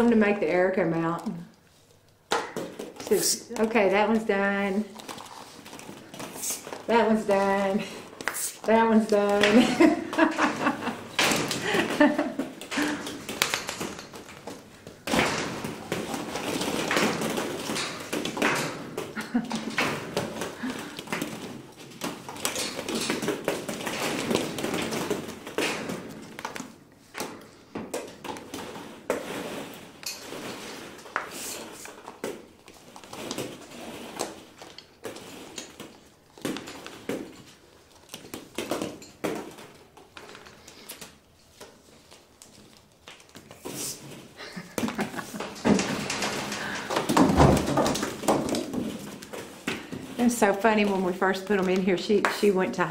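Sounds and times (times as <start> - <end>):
plastic balls rustling and clattering: 0.0 - 52.9.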